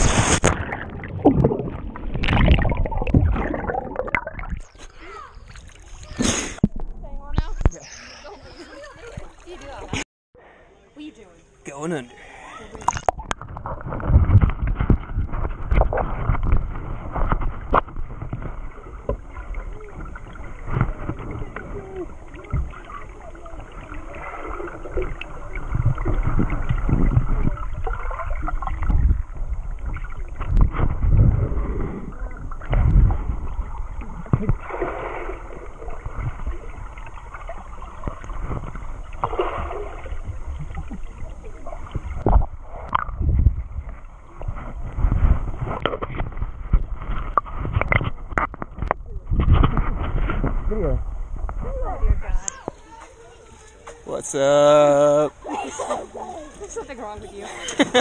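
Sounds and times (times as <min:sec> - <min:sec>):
muffled underwater sloshing: 0:00.0 - 0:10.0, 0:12.8 - 0:53.8.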